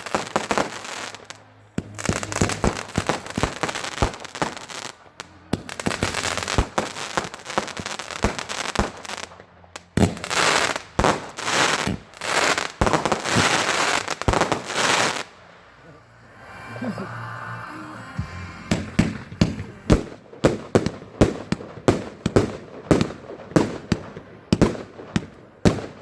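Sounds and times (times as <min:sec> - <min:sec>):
firework crackling: 0:00.0 - 0:17.0, 0:17.6 - 0:26.0.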